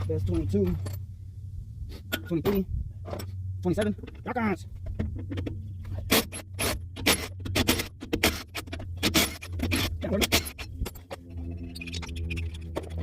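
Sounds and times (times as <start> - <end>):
metal tools clanking and scraping: 0.0 - 1.1, 2.0 - 13.0
low steady hum: 0.0 - 13.0.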